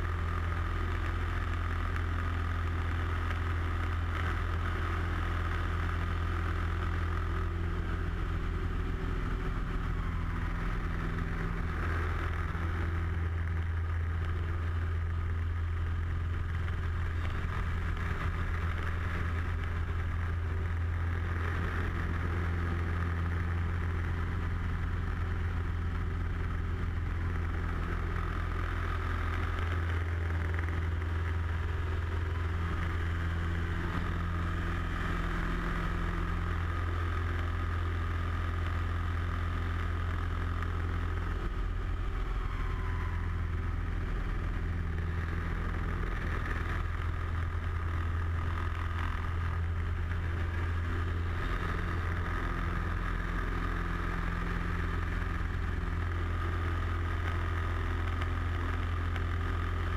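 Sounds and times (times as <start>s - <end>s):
plane engine and propeller: 0.0s - 59.9s.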